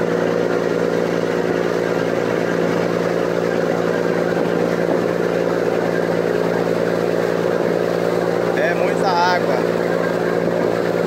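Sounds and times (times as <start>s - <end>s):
ferry engine droning: 0.0s - 11.0s.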